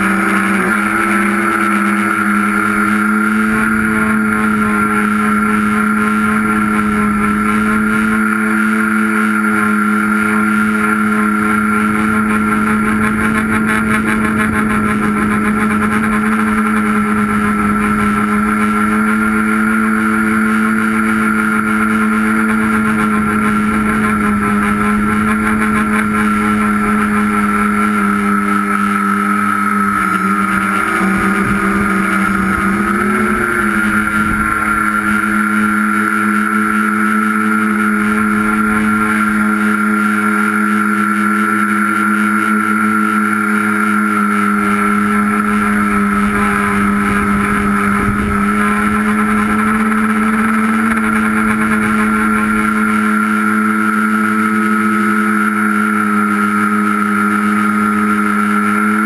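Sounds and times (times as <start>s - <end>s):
drone motors and propellers whining: 0.0s - 59.0s.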